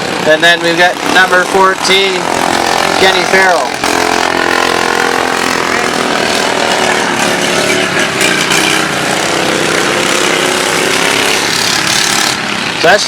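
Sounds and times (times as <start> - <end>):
racing lawn mower engines: 0.0 - 13.0.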